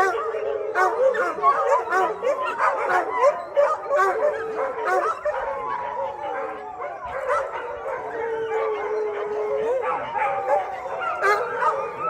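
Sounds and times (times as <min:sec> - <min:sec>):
dogs howling: 0:00.0 - 0:12.0
dogs yipping and barking: 0:00.0 - 0:12.0.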